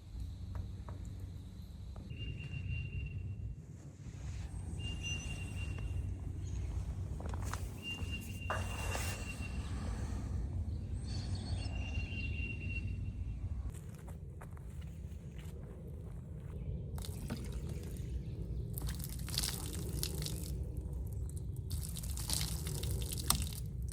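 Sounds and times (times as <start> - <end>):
wind rumble: 0.0 - 23.9.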